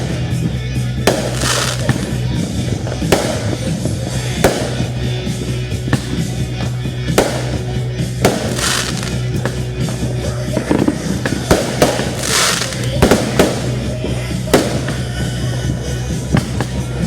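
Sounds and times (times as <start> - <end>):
music: 0.0 - 17.0
firework crackle: 1.0 - 16.8
fireworks bangs: 1.0 - 17.0.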